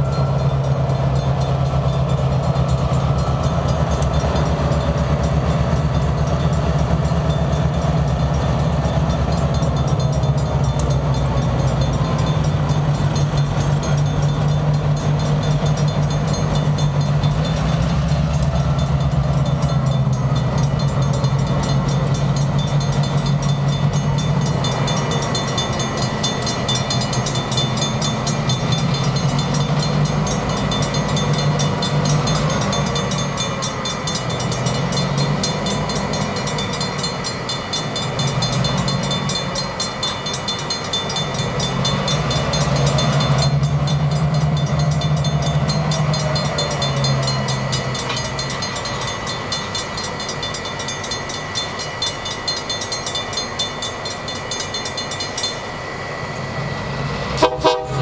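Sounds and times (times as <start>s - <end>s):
crossing bells ringing: 0.0s - 58.0s
diesel locomotives rumbling: 0.0s - 58.0s.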